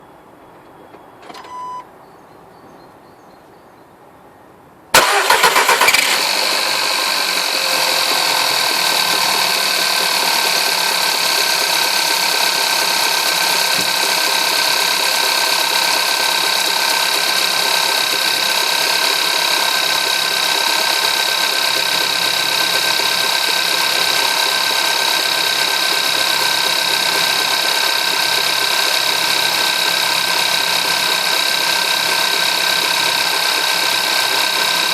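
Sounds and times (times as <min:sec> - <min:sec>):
car engine cranking and idling: 0:05.0 - 0:34.9.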